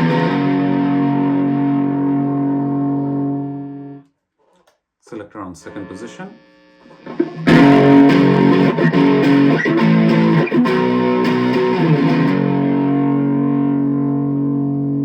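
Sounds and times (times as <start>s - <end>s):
distorted electric guitar chords: 0.0s - 4.0s, 5.6s - 15.0s.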